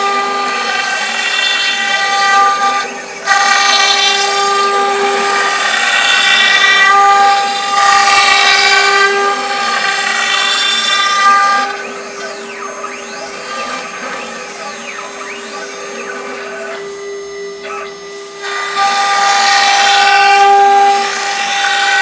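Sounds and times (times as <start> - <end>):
cnc router whining: 0.0 - 22.0.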